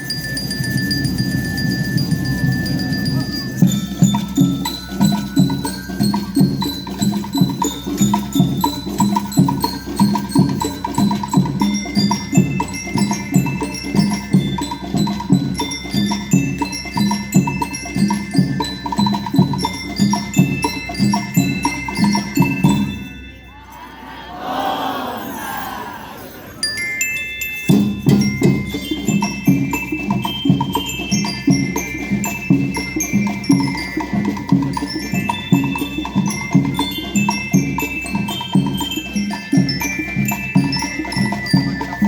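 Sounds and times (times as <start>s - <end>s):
steady drum beat: 0.0s - 23.2s, 27.7s - 42.0s
bell lyres playing melody: 0.0s - 42.0s.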